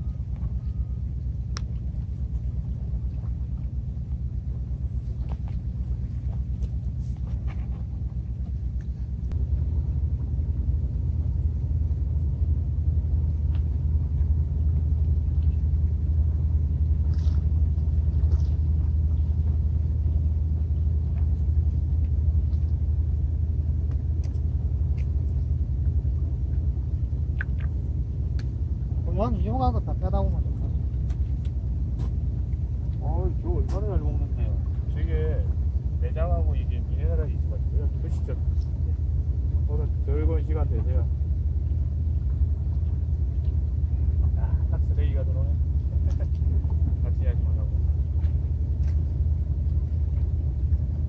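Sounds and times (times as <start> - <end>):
low rumble: 0.0 - 51.0.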